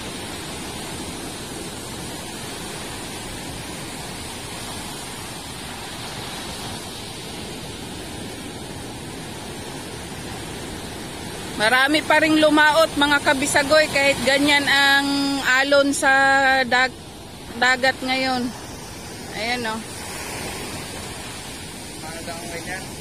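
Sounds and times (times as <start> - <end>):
surf rushing: 0.0 - 23.0.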